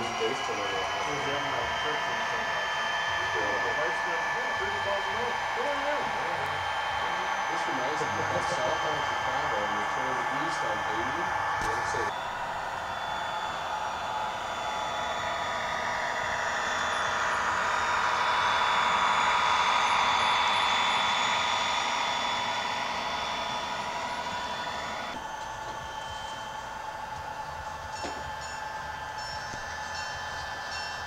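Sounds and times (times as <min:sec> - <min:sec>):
model train rolling past: 0:00.0 - 0:13.2, 0:15.6 - 0:31.0.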